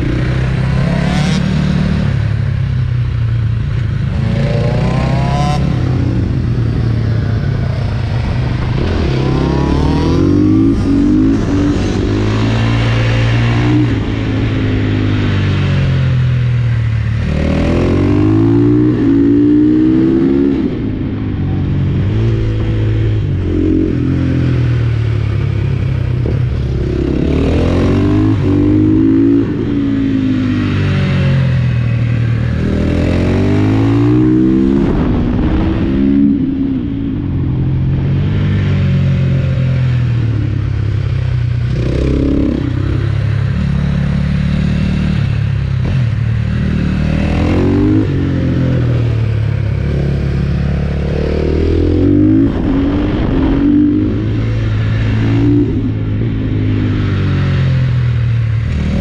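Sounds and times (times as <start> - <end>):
motorcycle engine revving: 0.0 - 59.0
steady rush of noise: 0.0 - 59.0.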